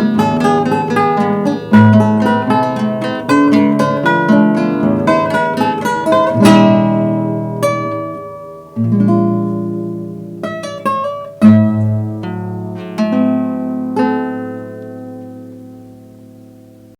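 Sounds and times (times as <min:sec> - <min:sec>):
guitar duet playing: 0:00.0 - 0:16.9.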